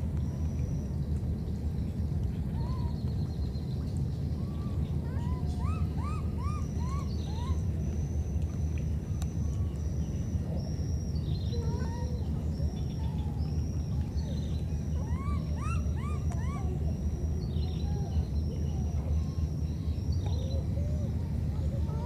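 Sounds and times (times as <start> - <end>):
steady low rumble: 0.0 - 22.0
thin high whine: 4.2 - 22.0.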